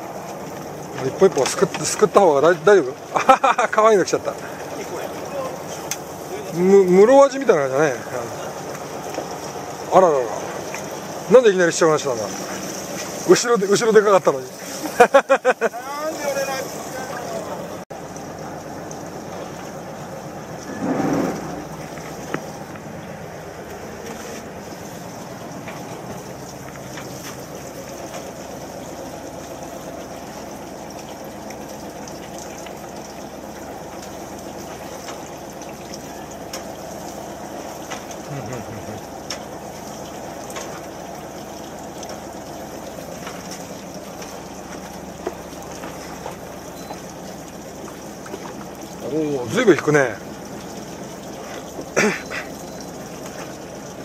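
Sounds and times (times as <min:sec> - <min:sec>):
boat engine idling: 0:00.0 - 0:54.0
water sloshing along hull: 0:00.0 - 0:54.0.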